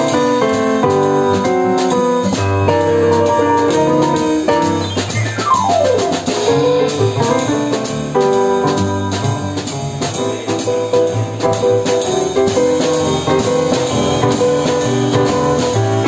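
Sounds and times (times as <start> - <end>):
drum kit: 0.0 - 16.0
piano chords: 0.0 - 16.0
plucked double bass: 0.0 - 16.0.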